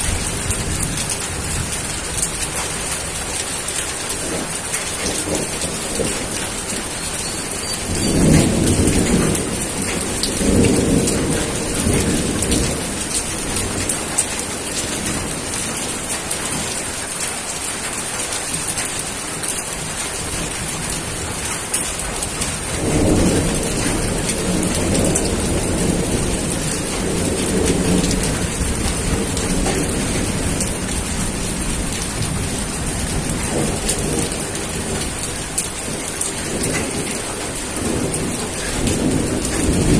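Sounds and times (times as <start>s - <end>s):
rolling thunder: 0.0s - 16.8s, 19.8s - 39.9s
heavy rain: 0.0s - 39.9s.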